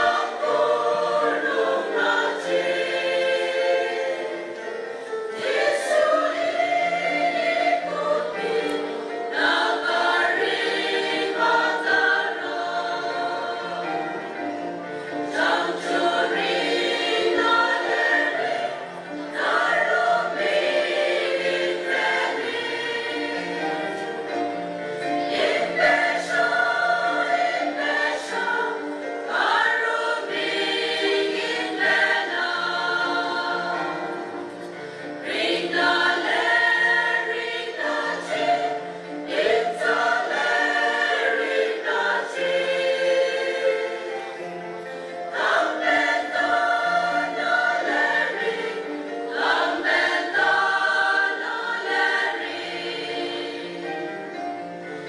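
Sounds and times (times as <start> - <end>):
mixed choir singing a hymn: 0.0 - 55.0.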